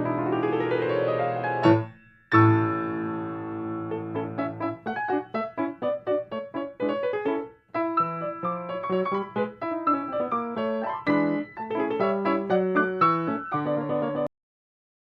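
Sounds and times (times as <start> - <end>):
lively piano notes: 0.0 - 14.3.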